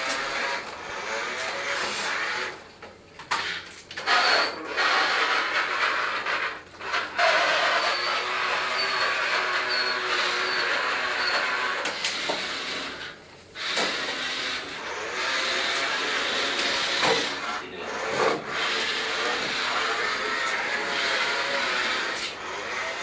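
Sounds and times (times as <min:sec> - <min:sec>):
toy motors whirring: 0:00.0 - 0:02.6, 0:03.3 - 0:23.0.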